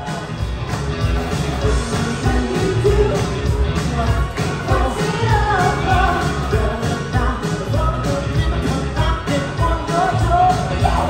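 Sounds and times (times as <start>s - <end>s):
heavy bass beat: 0.0s - 11.0s
pop music with singing: 0.0s - 11.0s.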